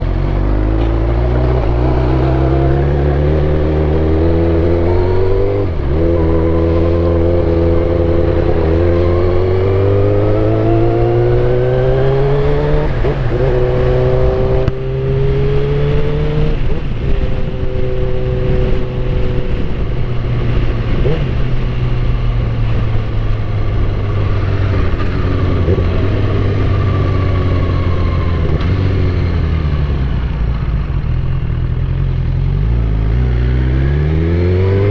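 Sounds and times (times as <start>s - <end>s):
motorcycle engine changing gear: 0.0s - 34.9s.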